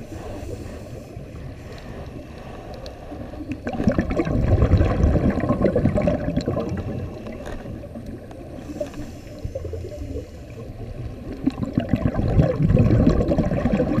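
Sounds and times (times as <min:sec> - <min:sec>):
underwater breath bubbling: 0:00.0 - 0:14.0.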